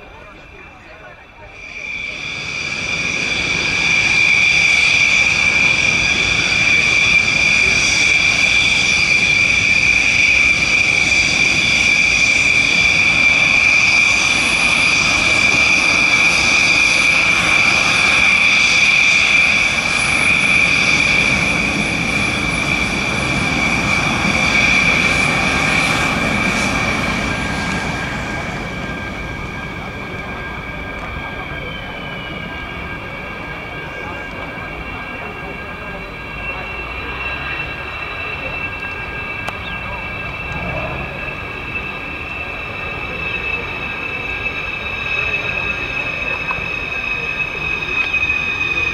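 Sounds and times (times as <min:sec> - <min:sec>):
jet engine whine: 0:00.0 - 0:48.9.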